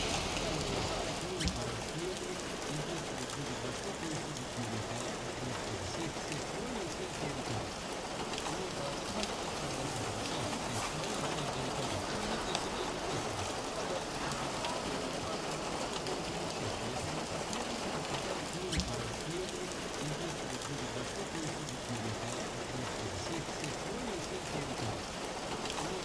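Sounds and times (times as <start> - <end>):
murmur of voices: 0.0 - 26.0
rain falling: 0.0 - 26.0.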